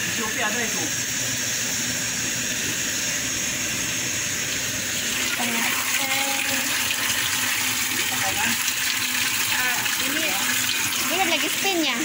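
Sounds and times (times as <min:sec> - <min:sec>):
water pouring into washing machine: 0:02.2 - 0:12.0.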